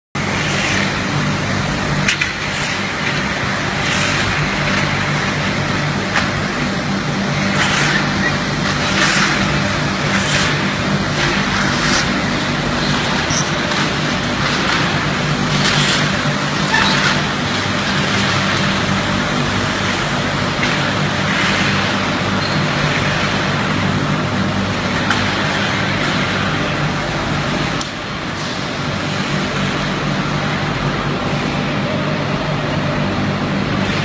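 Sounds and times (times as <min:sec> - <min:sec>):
low motor hum: 0:00.2 - 0:34.0.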